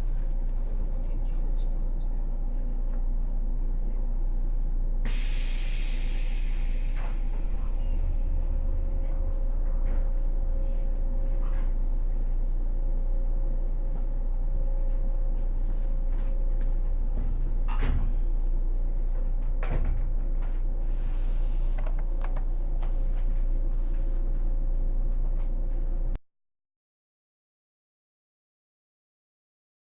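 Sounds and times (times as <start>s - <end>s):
train equipment humming: 0.0s - 26.2s.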